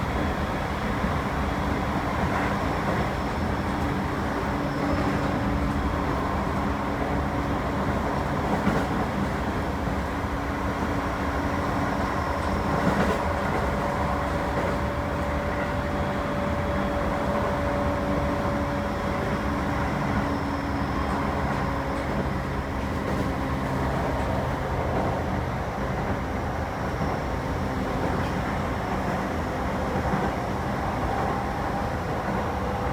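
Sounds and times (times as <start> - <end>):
train wheels rumbling: 0.0 - 32.9.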